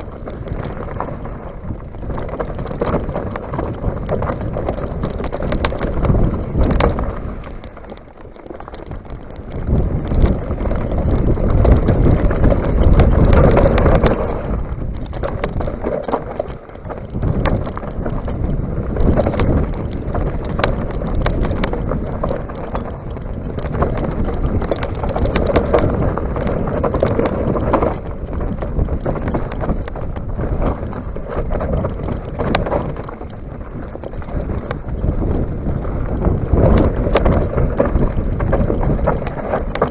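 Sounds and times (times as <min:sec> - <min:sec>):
bike clicks and clatters: 0:00.0 - 0:39.9
tyres rolling over loose stones: 0:00.0 - 0:39.9
wind rushing over microphone: 0:00.0 - 0:39.9.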